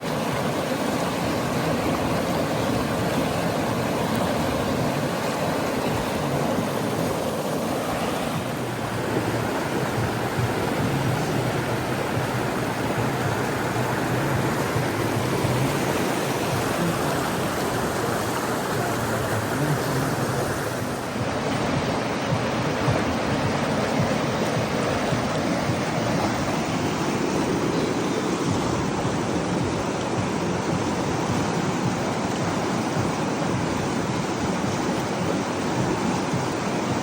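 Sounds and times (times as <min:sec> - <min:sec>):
river rushing over rocks: 0:00.0 - 0:37.0.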